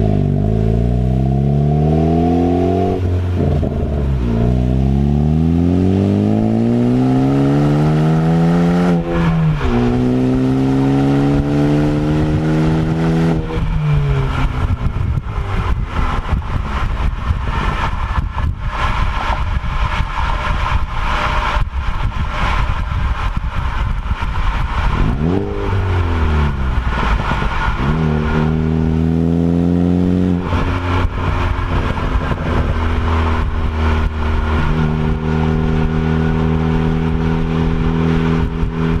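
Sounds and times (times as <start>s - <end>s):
car engine accelerating hard: 0.0s - 39.0s
road noise: 0.0s - 39.0s.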